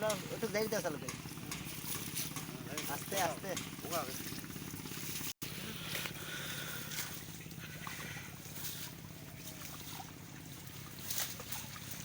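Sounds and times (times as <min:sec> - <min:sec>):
light water splashes: 0:00.0 - 0:12.0
small boat engine humming: 0:00.0 - 0:12.0.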